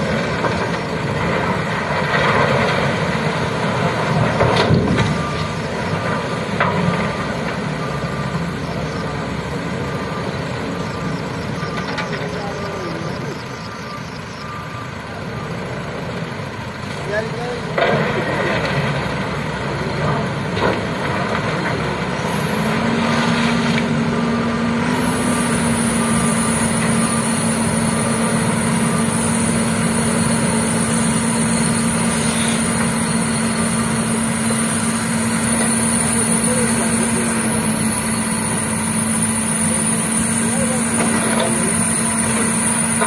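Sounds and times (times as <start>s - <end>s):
diesel engines running: 0.0s - 43.0s.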